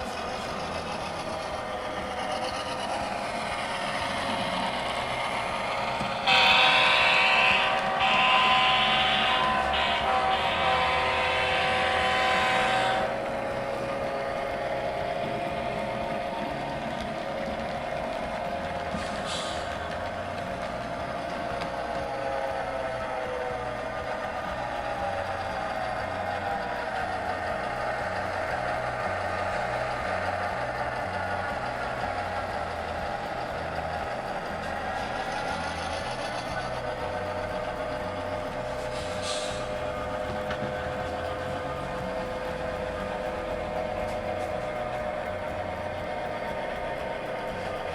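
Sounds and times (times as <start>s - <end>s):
diesel engine drone: 0.0s - 47.9s
model locomotive whine and chug: 0.0s - 47.9s.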